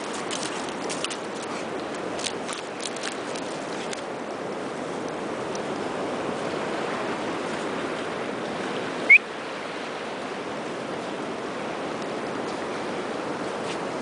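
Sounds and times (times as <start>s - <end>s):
surf washing over rocks: 0.0s - 14.0s.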